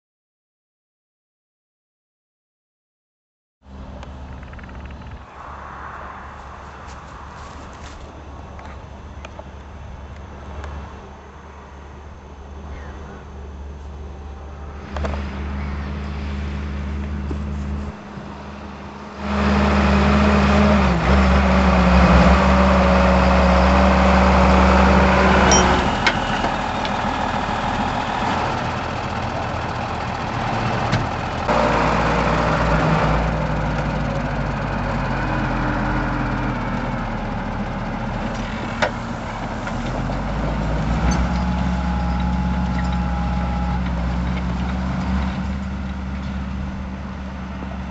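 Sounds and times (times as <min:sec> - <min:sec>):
tractor diesel engine working: 0:06.1 - 0:47.9.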